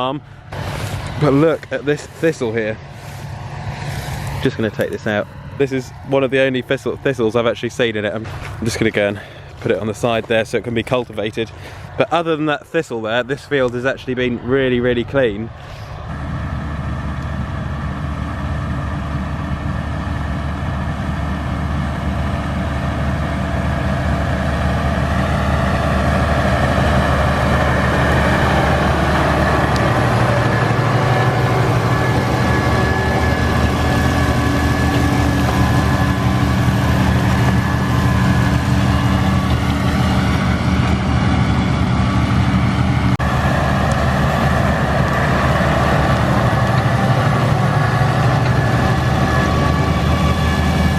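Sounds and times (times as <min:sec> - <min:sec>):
heavy farm machinery engine: 0:00.0 - 0:50.9.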